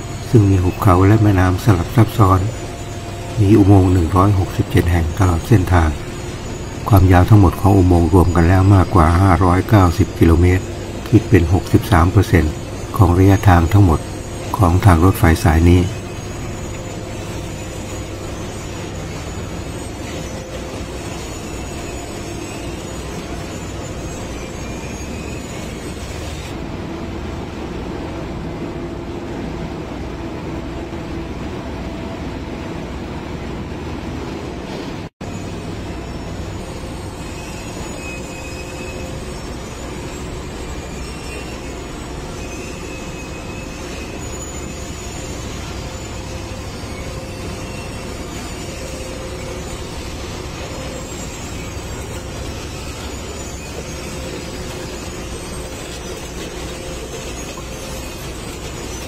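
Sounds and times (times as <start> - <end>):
machine and rail noise: 0.0 - 59.0.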